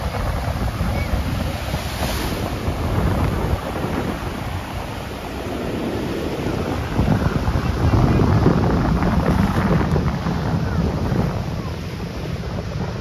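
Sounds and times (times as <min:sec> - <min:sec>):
surf breaking on shore: 0:00.0 - 0:13.0
wind buffeting microphone: 0:00.0 - 0:13.0.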